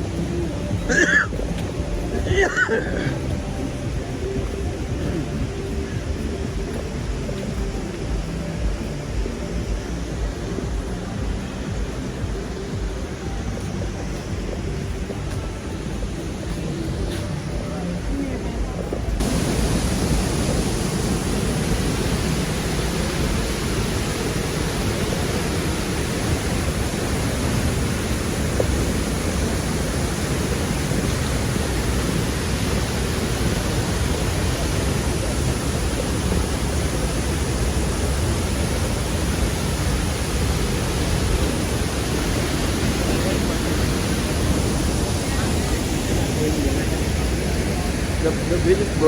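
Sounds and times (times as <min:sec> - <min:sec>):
waterfall roaring: 0:00.0 - 0:49.0.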